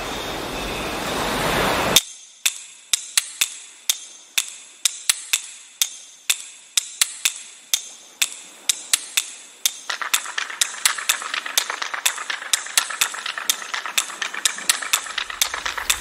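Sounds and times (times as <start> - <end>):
crab claws clicking: 2.4 - 16.0.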